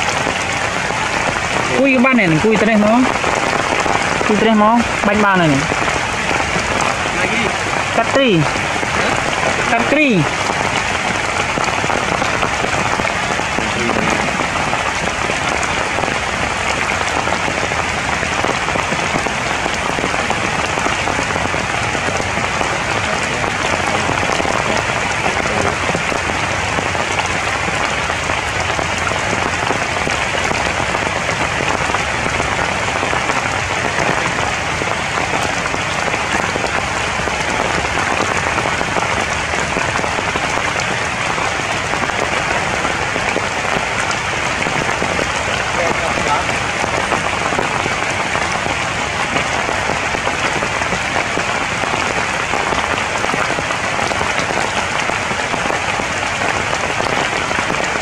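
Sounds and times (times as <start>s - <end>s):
heavy rain on leaves: 0.0s - 58.0s.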